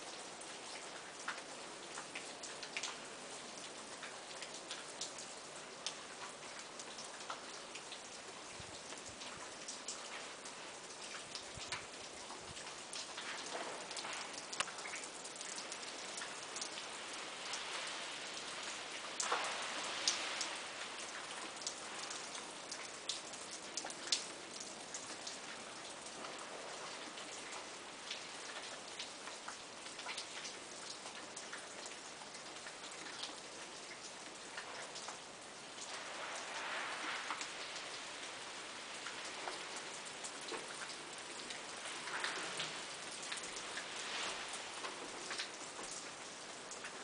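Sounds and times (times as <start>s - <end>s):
water and ice dripping from trees: 0.0s - 47.0s.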